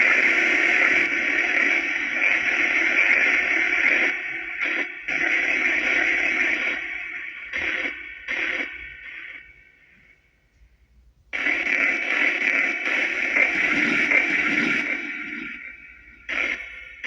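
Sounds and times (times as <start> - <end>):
white noise hiss with echo: 0.0 - 17.0.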